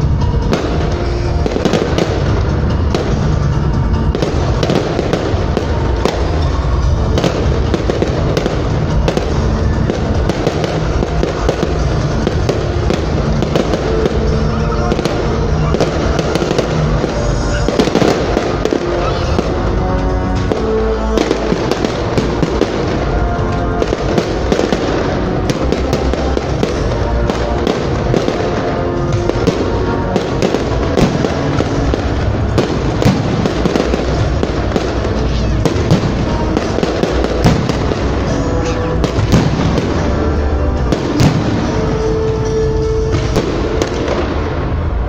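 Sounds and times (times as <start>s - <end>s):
fireworks bursting and crackling: 0.0s - 45.0s
loud music: 0.0s - 45.0s.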